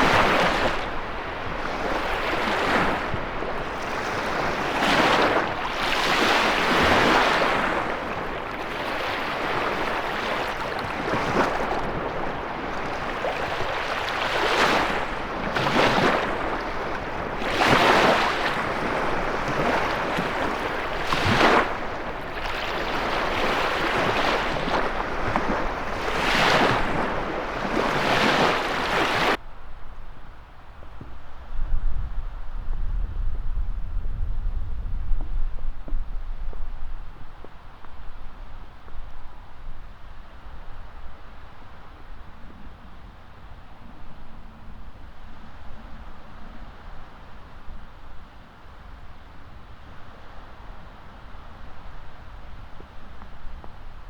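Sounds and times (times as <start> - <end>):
waves breaking on shore: 0.0 - 29.8, 35.2 - 54.0
strong wind: 0.0 - 54.0.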